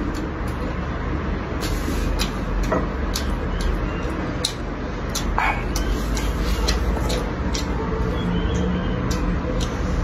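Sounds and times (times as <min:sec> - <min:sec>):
person chewing crunchy food: 0:01.5 - 0:10.0.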